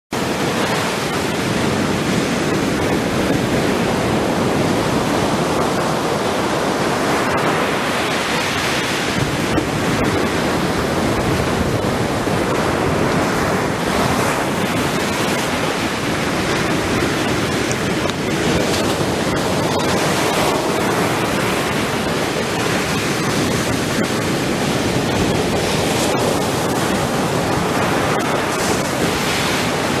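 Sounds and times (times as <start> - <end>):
ocean waves breaking on sand: 0.2 - 30.0.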